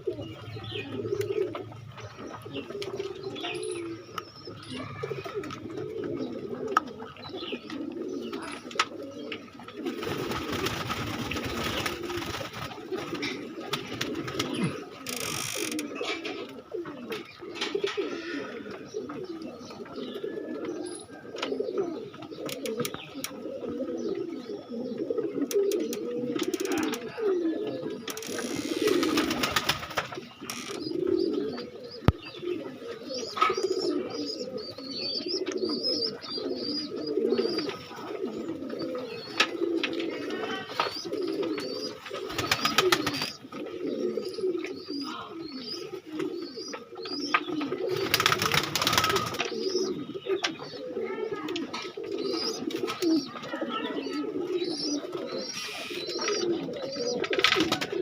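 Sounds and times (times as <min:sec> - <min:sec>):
pigeons cooing: 0:00.0 - 0:58.0.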